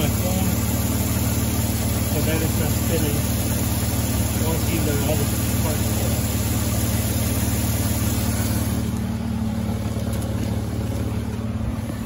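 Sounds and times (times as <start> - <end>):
minivan engine idling: 0.0 - 12.0.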